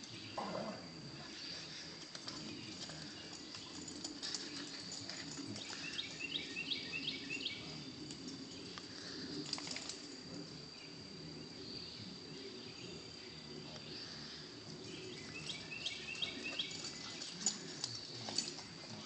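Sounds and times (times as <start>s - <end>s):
bird chirping: 0.0s - 10.0s, 10.7s - 19.0s
high-pitched insect drone: 0.0s - 19.0s.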